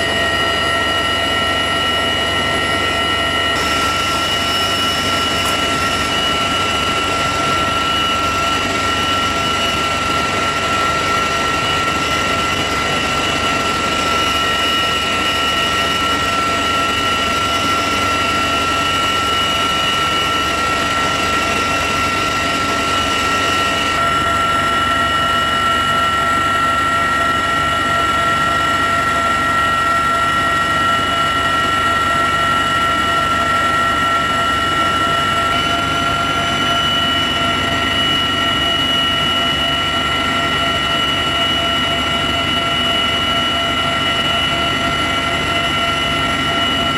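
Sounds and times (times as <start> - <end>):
helicopter rotor and engine drone: 0.0 - 46.9
high constant whine: 0.0 - 46.9.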